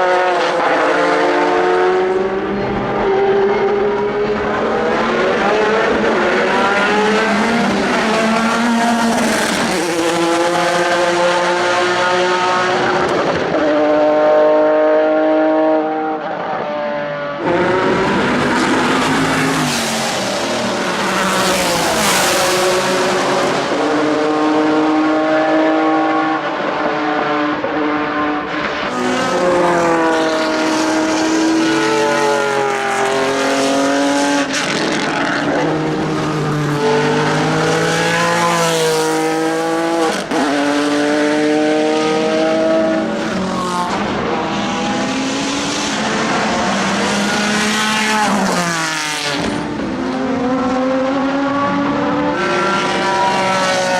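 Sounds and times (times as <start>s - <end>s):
racing engine at hard throttle: 0.0s - 53.9s.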